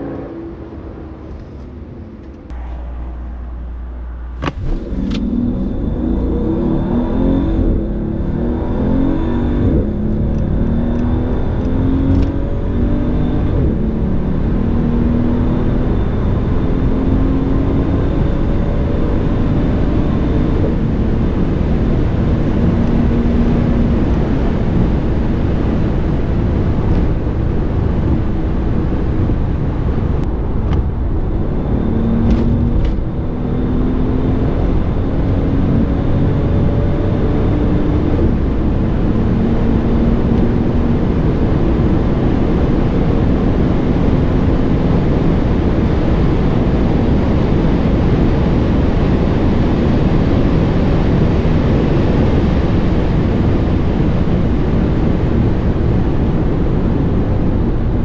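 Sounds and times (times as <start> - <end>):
car engine pulling hard: 0.0 - 58.0
wind and road noise: 0.0 - 58.0.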